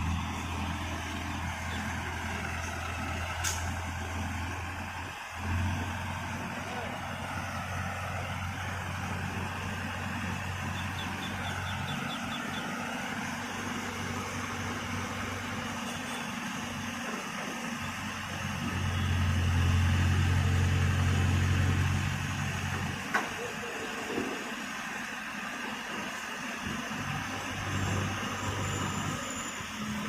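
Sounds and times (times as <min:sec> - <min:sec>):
crane diesel engine revving: 0:00.0 - 0:30.0.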